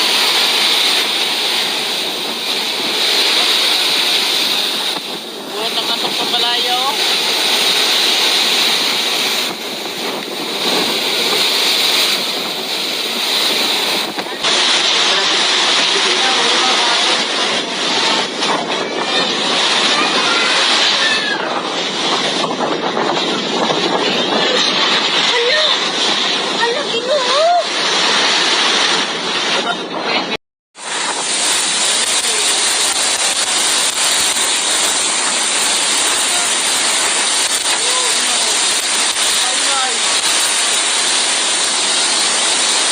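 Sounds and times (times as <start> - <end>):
storm surf: 0.0 - 42.9
storm wind: 0.0 - 42.9.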